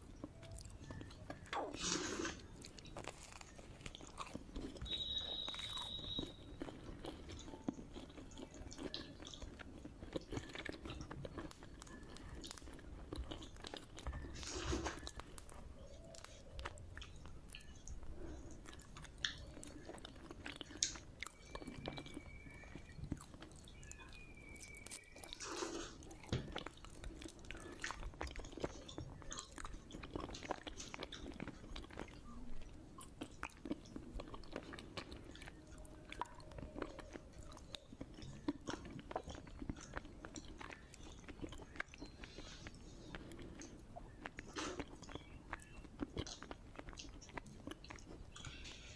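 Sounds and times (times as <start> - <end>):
person chewing wetly: 0.0 - 48.9.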